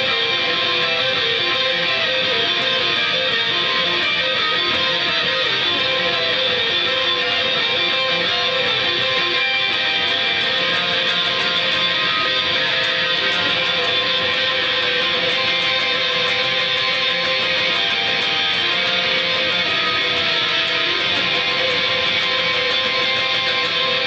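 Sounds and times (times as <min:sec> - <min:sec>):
electric guitar picked notes: 0:00.0 - 0:24.0.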